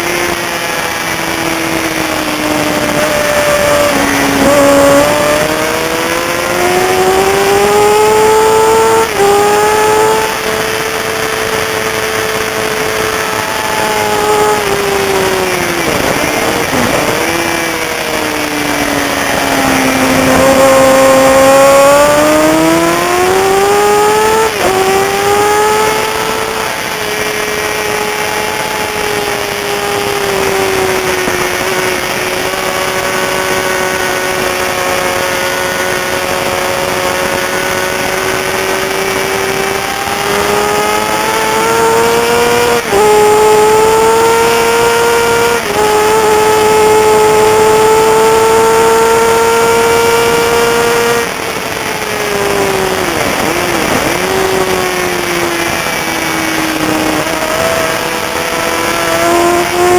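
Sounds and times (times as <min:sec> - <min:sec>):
racing motorcycle engine: 0:00.0 - 0:59.9
rushing wind noise: 0:00.0 - 0:59.9.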